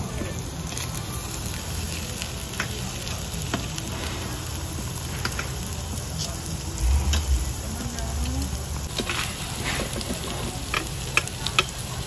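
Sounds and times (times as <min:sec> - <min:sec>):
meat sizzling on grill plate: 0:00.0 - 0:12.0.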